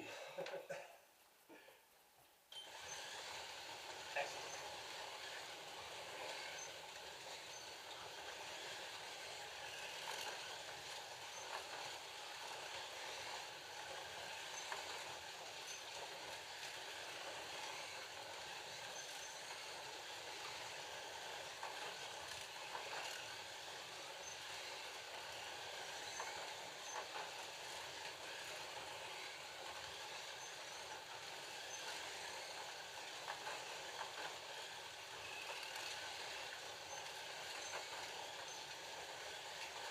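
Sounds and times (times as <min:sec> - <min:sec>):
slot car electric motors whirring: 0:02.5 - 0:39.9.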